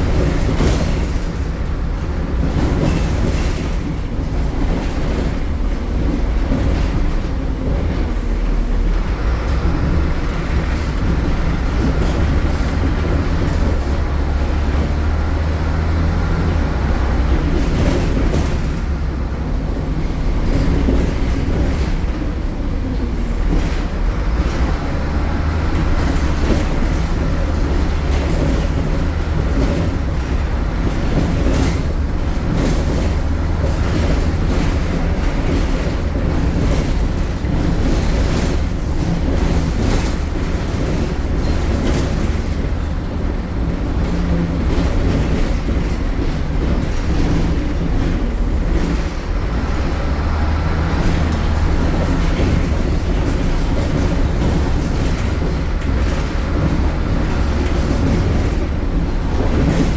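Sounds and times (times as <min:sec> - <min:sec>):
bus diesel engine rumble: 0:00.0 - 0:59.9
short rattles and knocks: 0:00.0 - 0:59.9.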